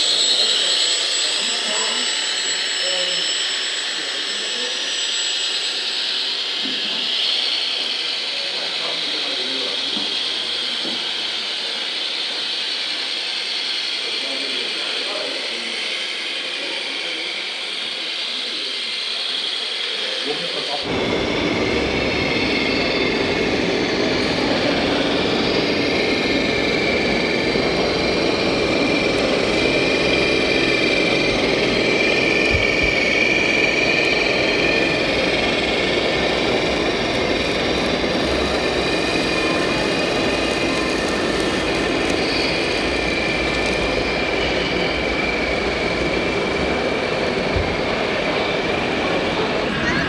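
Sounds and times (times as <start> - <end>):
motor running with high whine: 0.0 - 11.3, 14.2 - 50.0.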